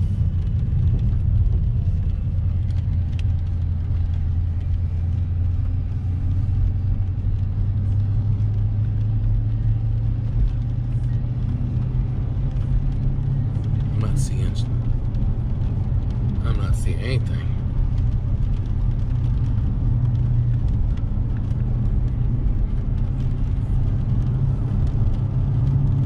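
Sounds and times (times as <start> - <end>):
car engine low drone: 0.0 - 26.0
road noise: 0.0 - 26.0.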